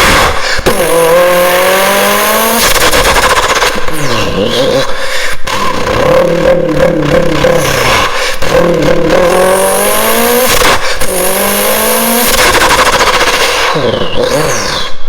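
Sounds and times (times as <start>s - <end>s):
car engine accelerating hard: 0.0s - 4.9s, 5.5s - 15.0s.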